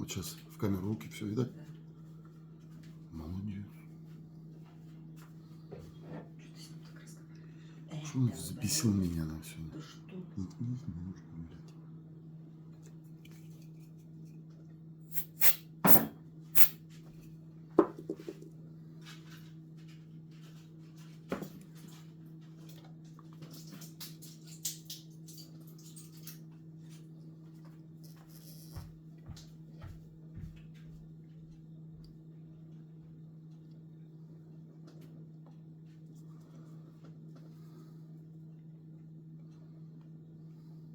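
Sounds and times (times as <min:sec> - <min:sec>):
steady low hum: 0:00.0 - 0:20.7, 0:27.0 - 0:40.9.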